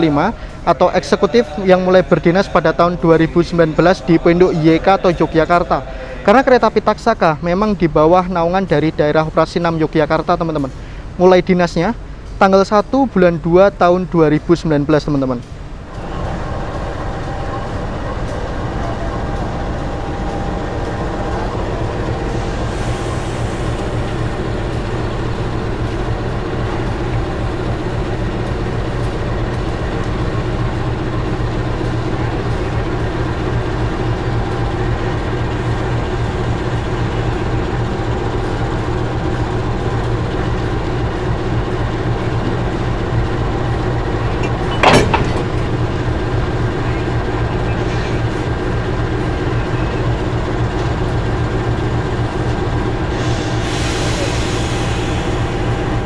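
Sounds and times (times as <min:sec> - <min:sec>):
locomotive engine humming: 0:00.0 - 0:11.2, 0:15.1 - 0:56.0.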